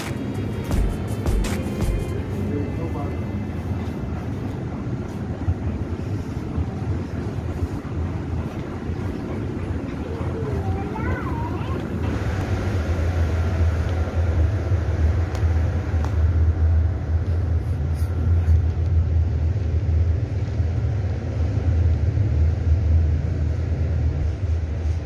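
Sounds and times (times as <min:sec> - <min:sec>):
wind buffeting microphone: 0:03.2 - 0:25.0.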